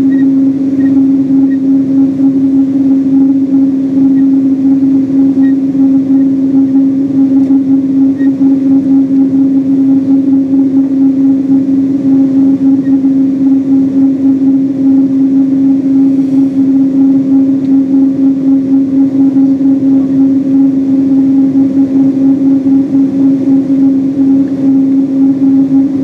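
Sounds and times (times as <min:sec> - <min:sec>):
aircraft cabin droning hum: 0:00.0 - 0:26.0.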